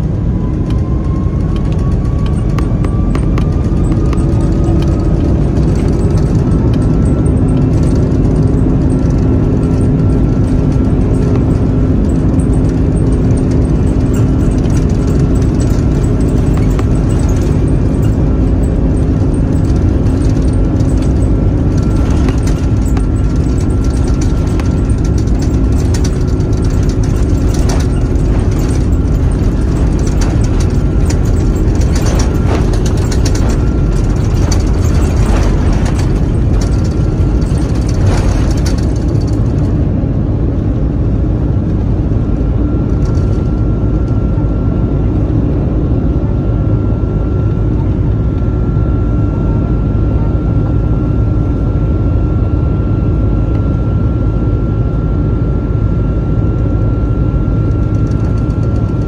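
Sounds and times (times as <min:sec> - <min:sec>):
jet engine and airflow rumble: 0:00.0 - 0:59.0
steady hum tones: 0:00.0 - 0:59.0.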